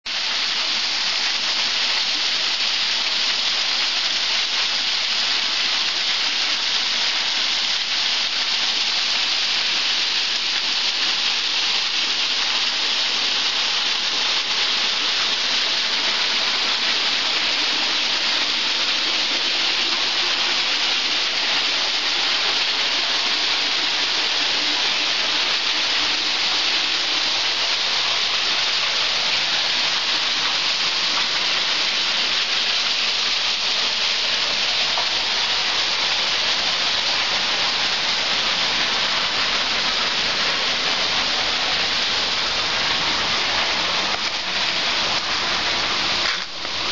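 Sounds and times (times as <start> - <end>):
waterfall splashing onto rock: 0.1 - 46.9.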